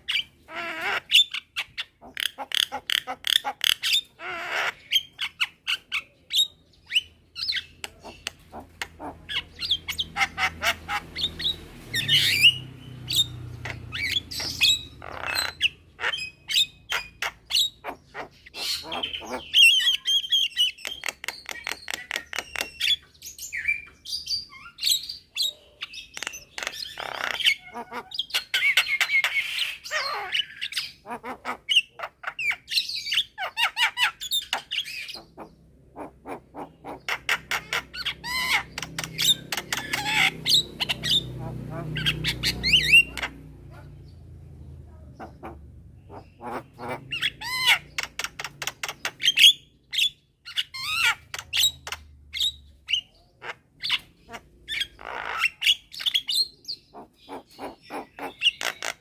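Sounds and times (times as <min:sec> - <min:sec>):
birds squawking and chirping: 0:00.0 - 0:59.0.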